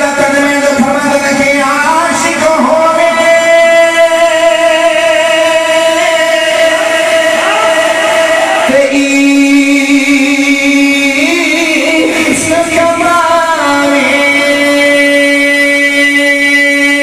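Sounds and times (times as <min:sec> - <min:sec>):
man chanting into microphone: 0:00.0 - 0:17.0.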